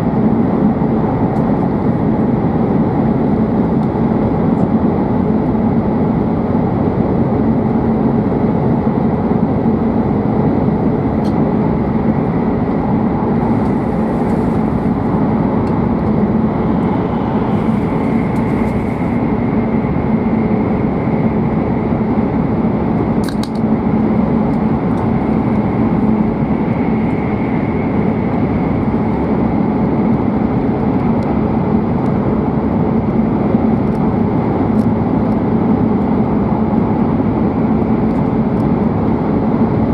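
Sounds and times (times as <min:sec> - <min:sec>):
train cabin rumble and rush: 0:00.0 - 0:39.9.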